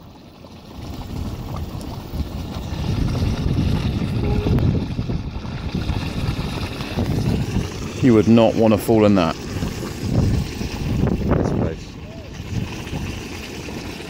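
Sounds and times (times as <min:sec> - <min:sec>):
wind buffeting microphone: 0:00.8 - 0:08.5, 0:09.4 - 0:13.4.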